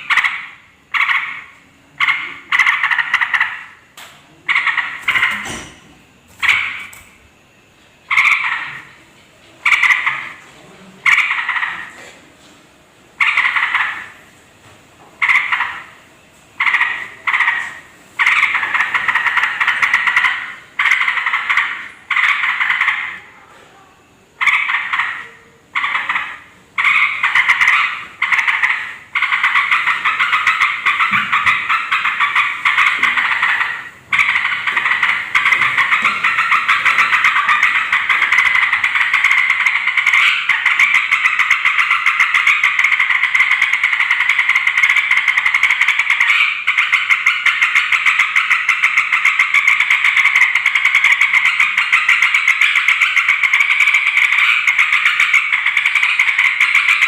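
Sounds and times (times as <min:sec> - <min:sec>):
birds chattering harshly: 0:00.0 - 0:12.2, 0:13.1 - 0:14.4, 0:15.1 - 0:23.5, 0:24.3 - 0:57.0.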